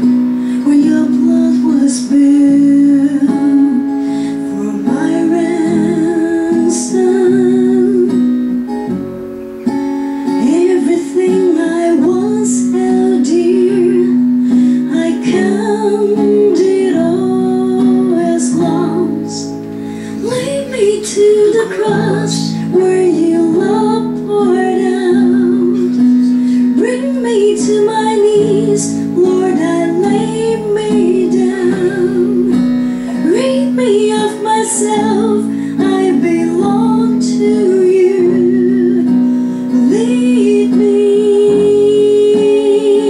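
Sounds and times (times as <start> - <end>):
person singing with vibrato: 0.0 - 8.4, 10.2 - 43.0
acoustic guitar: 0.0 - 43.0
electric guitar: 0.0 - 43.0.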